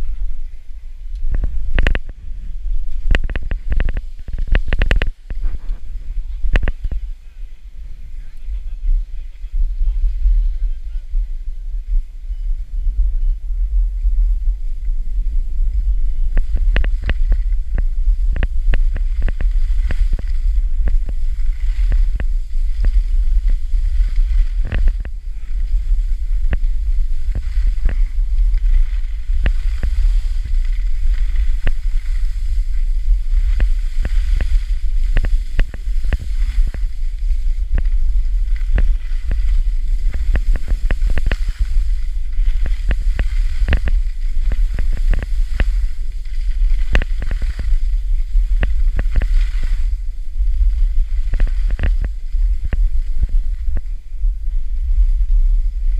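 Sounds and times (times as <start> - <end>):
low wind rumble on microphone: 0.0 - 55.9
skis clicking over snow: 0.0 - 55.9.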